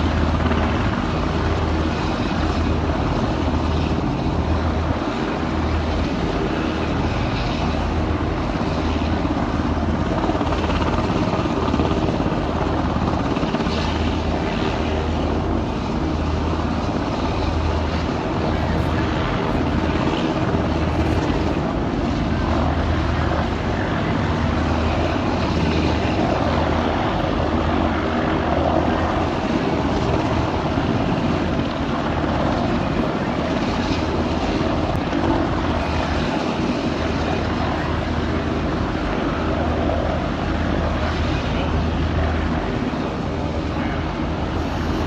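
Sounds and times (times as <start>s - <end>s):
constant low hum: 0.0s - 45.0s
jet airliner engine rush: 0.0s - 45.0s.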